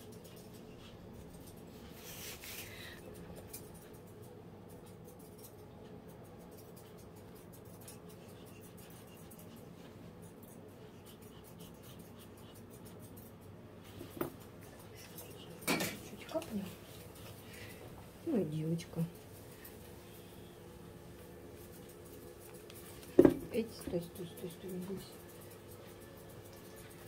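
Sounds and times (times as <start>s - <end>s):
scratching and rubbing of fur: 0.0s - 2.8s, 3.5s - 17.5s, 21.1s - 27.0s.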